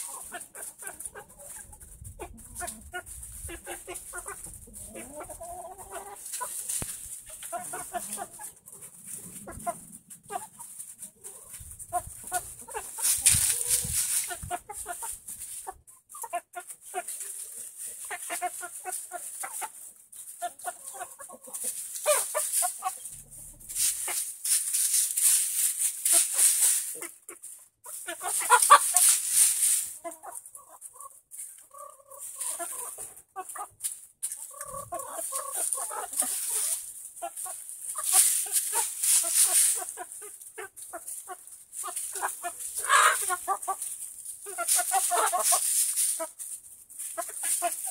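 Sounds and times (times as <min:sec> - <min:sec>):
hens clucking: 0:00.0 - 0:47.9
scratching in wood chips: 0:00.0 - 0:47.9.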